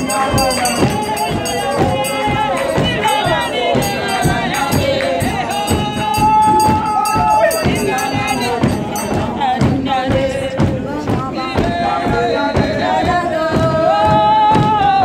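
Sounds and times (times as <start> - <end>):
crowd noise: 0.0 - 15.0
percussive beat: 0.0 - 15.0
voices singing church music: 0.0 - 15.0.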